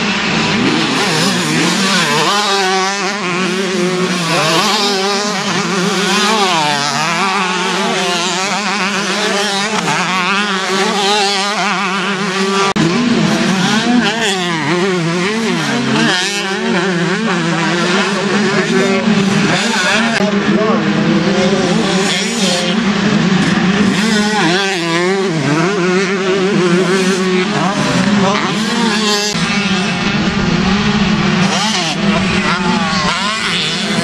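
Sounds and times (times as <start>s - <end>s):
motocross bikes revving: 0.0s - 34.0s.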